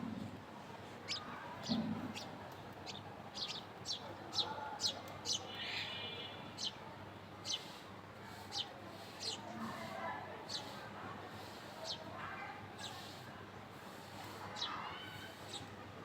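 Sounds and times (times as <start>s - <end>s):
small birds chirping: 0.8s - 15.8s.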